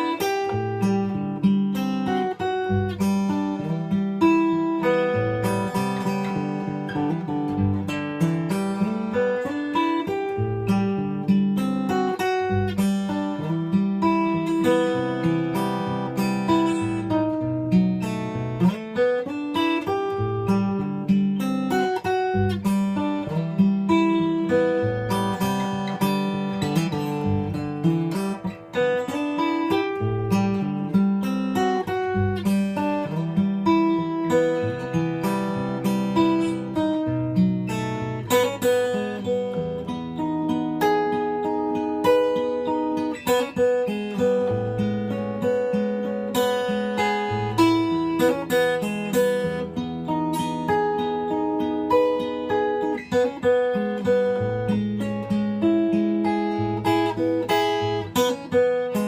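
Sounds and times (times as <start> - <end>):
acoustic guitar melody: 0.0 - 59.0.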